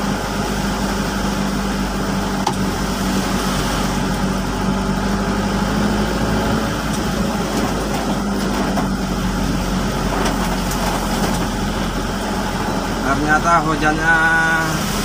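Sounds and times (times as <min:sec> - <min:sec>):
car engine hum from inside: 0:00.0 - 0:15.0
tyres on wet road: 0:00.0 - 0:15.0
heavy rain hiss: 0:00.1 - 0:07.8, 0:09.0 - 0:15.0.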